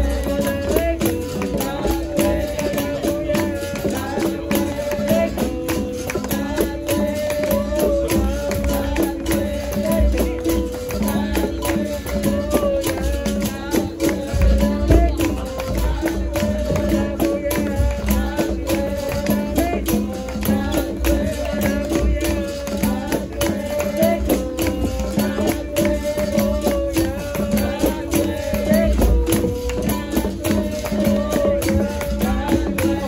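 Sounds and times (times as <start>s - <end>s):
berimbau rhythm: 0.0s - 33.0s
drum beats: 0.0s - 33.0s
person singing: 0.0s - 33.0s
shaker rattles: 0.0s - 33.0s
tambourine jingles: 0.0s - 33.0s.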